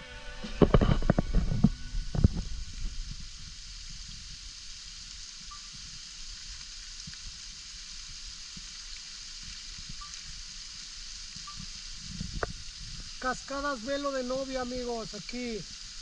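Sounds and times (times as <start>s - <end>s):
waterfall rushing hiss: 0.0s - 16.0s.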